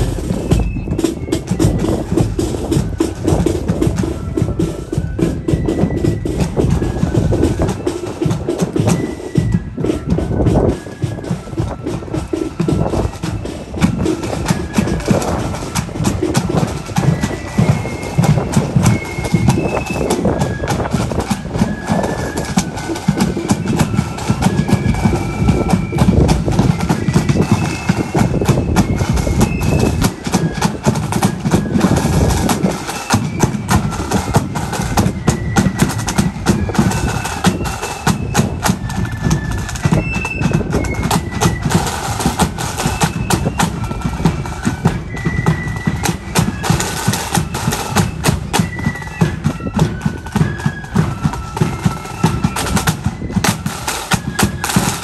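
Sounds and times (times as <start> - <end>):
high flute melody: 0.0 - 55.0
snare drums march beat: 0.0 - 55.0.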